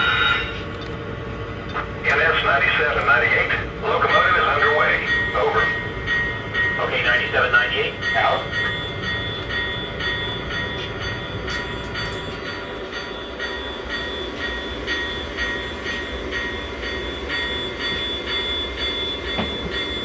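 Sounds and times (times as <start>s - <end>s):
model train running: 0.0s - 20.0s.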